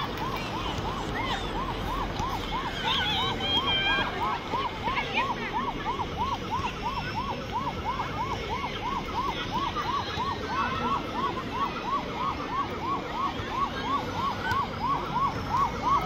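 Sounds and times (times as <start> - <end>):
crowd murmur: 0.0 - 16.0
electronic siren whooping: 0.0 - 16.0.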